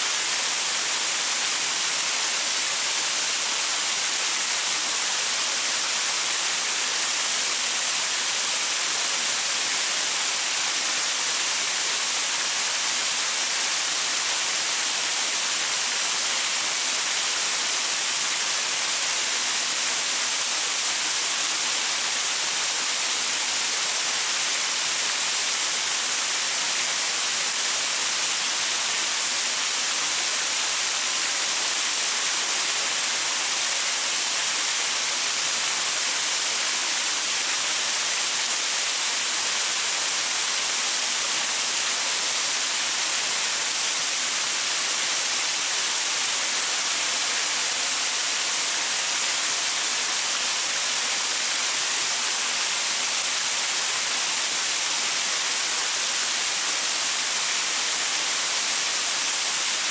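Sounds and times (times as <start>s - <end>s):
waterfall pouring over rocks: 0.0s - 59.9s.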